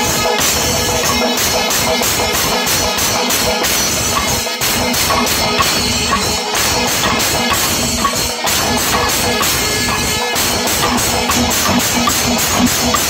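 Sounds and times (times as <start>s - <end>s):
cymbals clashing: 0.0s - 13.0s
drums playing dense rhythm: 0.0s - 13.0s.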